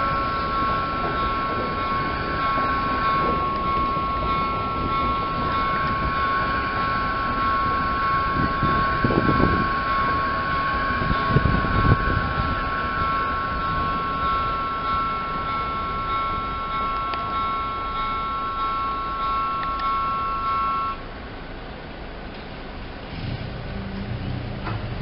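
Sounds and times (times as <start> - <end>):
train wheels clacking on rails: 0.0 - 21.0, 22.2 - 25.0
crossing warning bell: 0.0 - 25.0.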